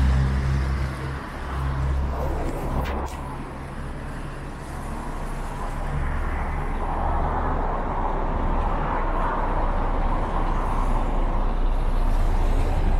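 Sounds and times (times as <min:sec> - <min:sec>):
bus engine humming: 0:00.0 - 0:12.9
cars driving past: 0:00.0 - 0:12.9.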